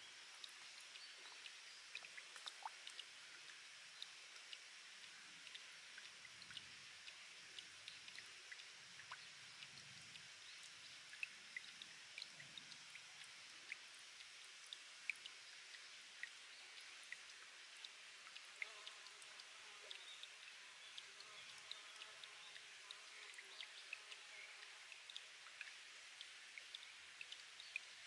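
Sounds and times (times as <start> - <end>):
spring water trickling: 0.0 - 28.0.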